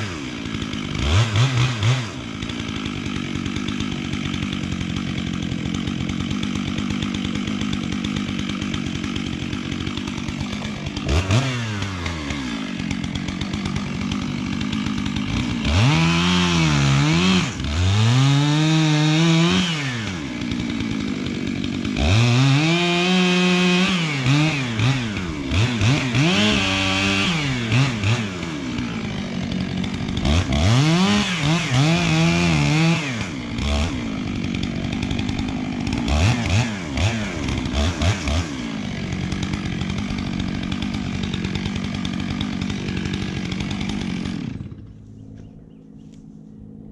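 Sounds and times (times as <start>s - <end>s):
chainsaw idling and revving: 0.0s - 45.4s.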